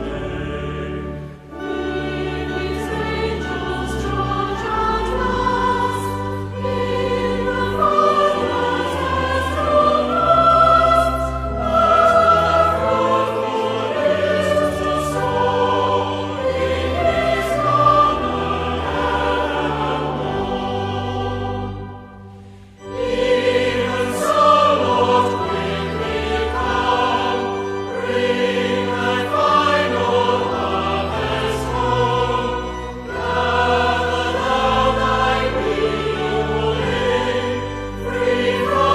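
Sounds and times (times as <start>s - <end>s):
choir singing a hymn: 0.0s - 38.9s
low sustained accompaniment: 0.0s - 38.9s.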